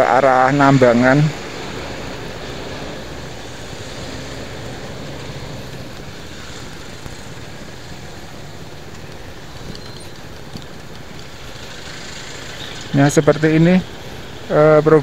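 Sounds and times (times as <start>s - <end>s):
road and tyre noise: 0.0s - 15.0s
truck engine rumble: 0.0s - 15.0s.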